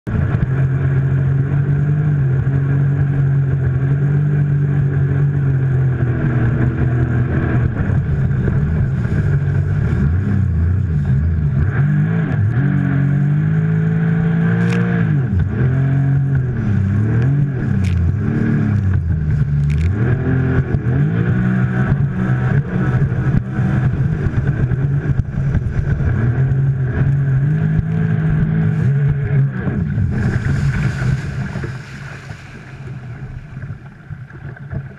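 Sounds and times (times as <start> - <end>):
jet ski engine revving: 0.1 - 34.9.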